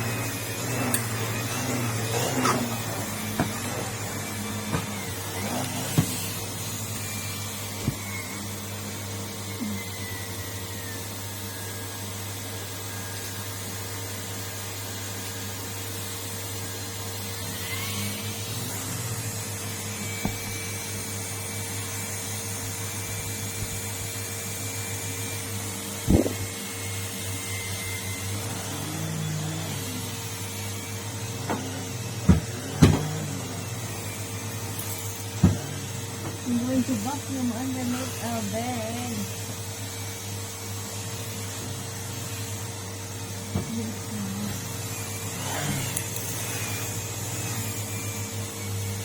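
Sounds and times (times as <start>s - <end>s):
vacuum cleaner running: 0.0s - 49.0s.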